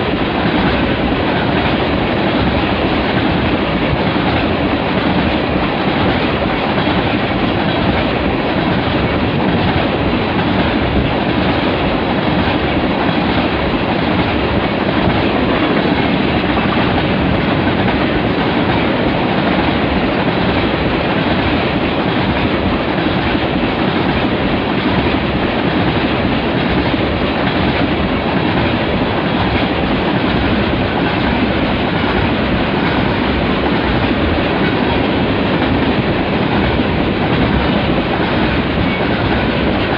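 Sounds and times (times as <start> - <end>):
steel train wheels on rails: 0.0 - 39.9.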